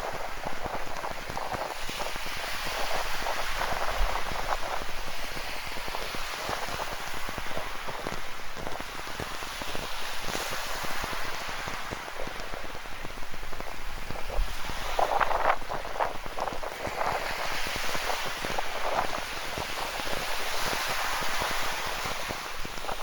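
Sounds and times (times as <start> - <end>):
ocean waves: 0.0 - 23.0.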